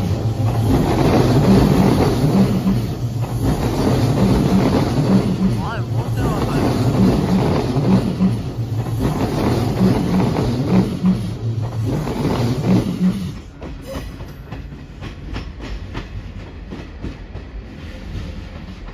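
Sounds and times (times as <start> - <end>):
train wheels clacking over joints: 0.0 - 18.9.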